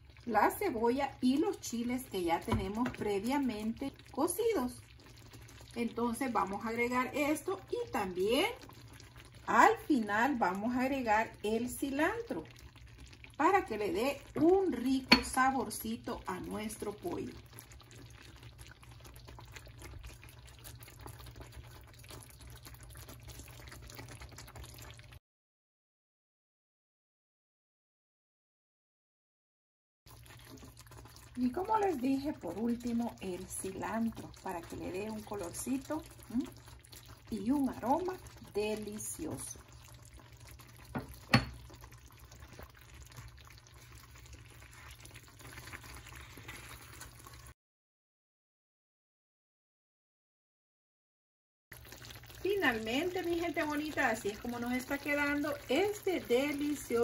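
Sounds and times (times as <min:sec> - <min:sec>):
sauce simmering in a skillet: 0:00.0 - 0:25.2, 0:30.1 - 0:47.6, 0:51.7 - 0:57.0.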